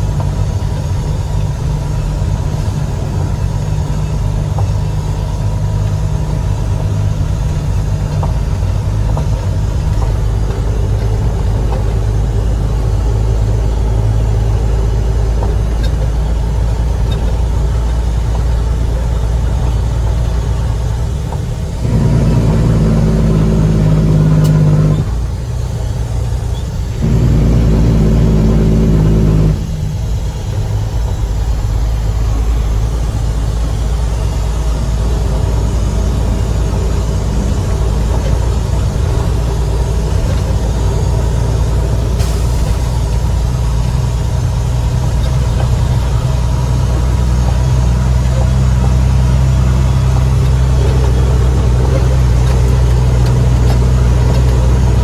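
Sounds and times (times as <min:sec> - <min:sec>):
diesel truck engine idling and revving: 0:00.0 - 0:55.0.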